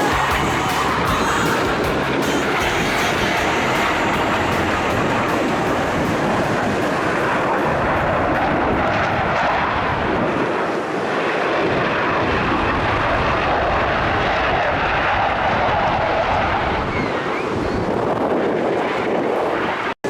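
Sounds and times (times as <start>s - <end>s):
aircraft engines: 0.0s - 20.0s.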